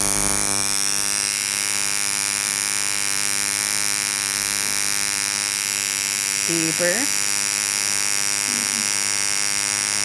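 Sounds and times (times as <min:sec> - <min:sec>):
tattoo machine buzzing: 0:00.0 - 0:10.0.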